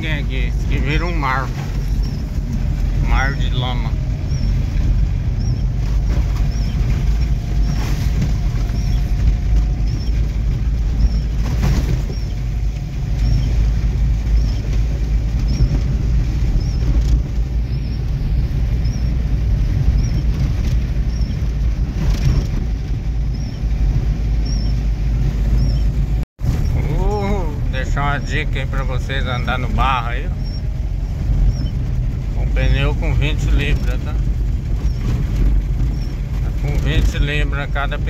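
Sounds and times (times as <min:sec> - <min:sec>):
car engine and tyres rumbling: 0:00.0 - 0:38.0
windscreen wipers chirping: 0:00.0 - 0:38.0.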